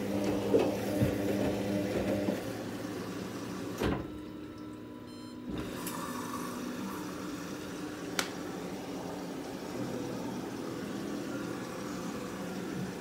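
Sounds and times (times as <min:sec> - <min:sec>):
washing machine drum turning: 0:00.0 - 0:06.0, 0:08.0 - 0:13.0.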